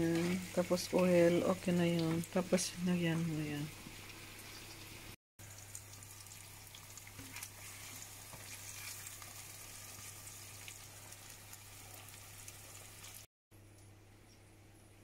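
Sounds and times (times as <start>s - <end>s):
eggs sizzling in oil: 0.0s - 13.3s.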